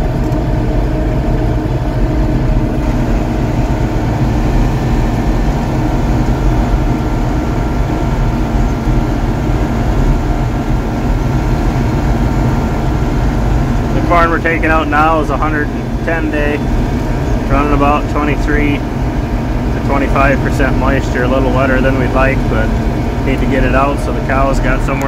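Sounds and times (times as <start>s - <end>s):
tractor diesel engine drone: 0.0s - 25.0s.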